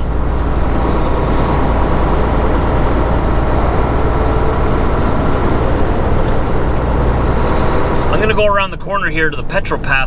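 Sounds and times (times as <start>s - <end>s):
truck engine and tyre drone: 0.0s - 10.0s.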